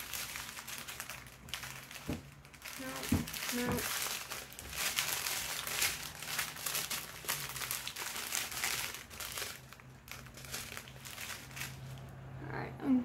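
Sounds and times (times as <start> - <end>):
plastic bags crinkling: 0.0 - 12.2.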